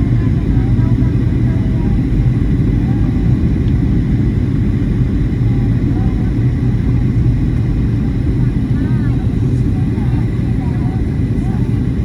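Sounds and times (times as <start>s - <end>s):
airliner cabin rumble: 0.0s - 12.0s
faint voices: 0.0s - 12.0s.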